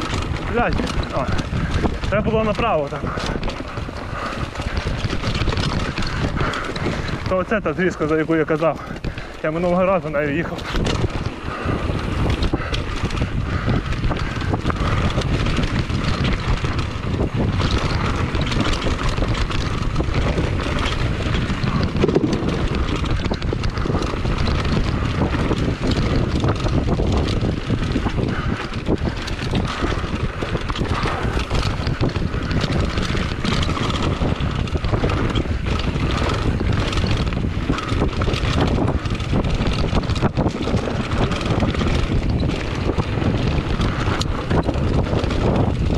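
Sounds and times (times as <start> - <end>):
bike rattling over bumps: 0.0 - 45.9
tyres rolling over dirt: 0.0 - 45.9
wind buffeting microphone: 0.0 - 45.9.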